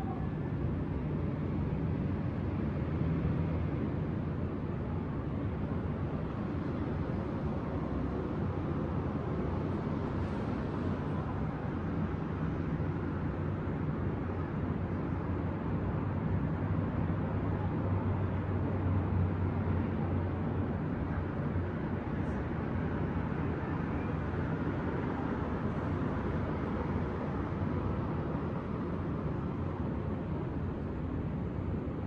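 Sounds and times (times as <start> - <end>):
distant city traffic rumble: 0.0 - 32.0.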